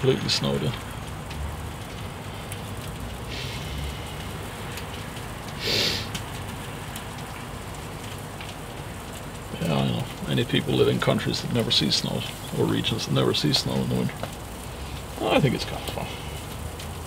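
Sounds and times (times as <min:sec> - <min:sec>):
food sizzling on a grill: 0:00.0 - 0:17.0.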